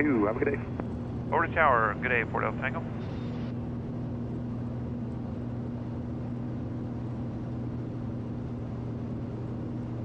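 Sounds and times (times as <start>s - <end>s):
aircraft cabin engine drone: 0.0s - 10.0s.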